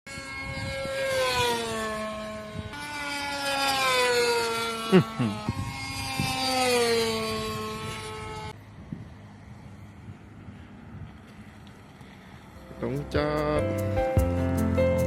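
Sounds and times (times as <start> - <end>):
model plane engine buzzing: 0.1 - 13.6.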